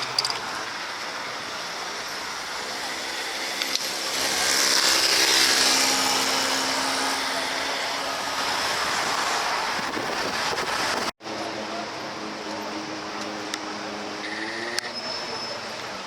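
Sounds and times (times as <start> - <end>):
steady traffic rush: 0.0 - 16.0
vehicle passing close: 0.0 - 16.0.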